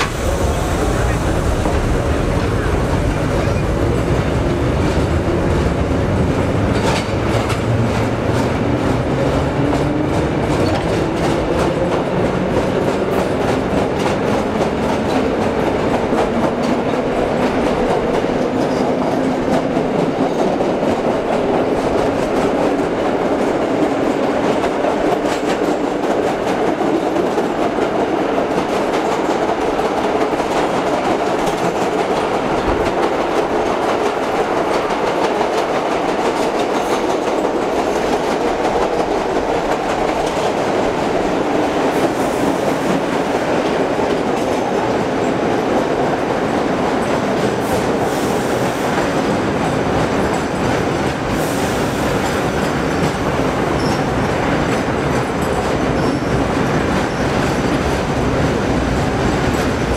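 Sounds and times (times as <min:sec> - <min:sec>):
subway train wheels rumbling: 0:00.0 - 0:59.9.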